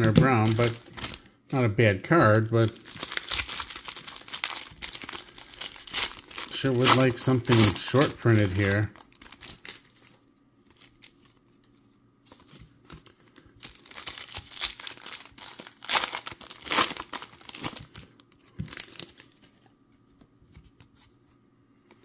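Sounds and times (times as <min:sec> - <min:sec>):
foil wrapper crinkling and tearing: 0:00.0 - 0:11.7, 0:12.3 - 0:19.6.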